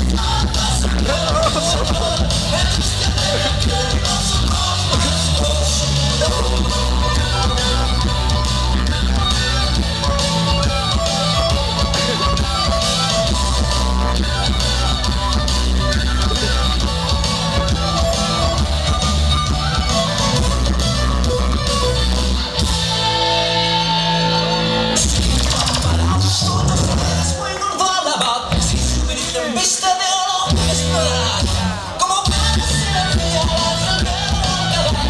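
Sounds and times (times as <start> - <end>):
loud rock music: 0.0 - 35.0.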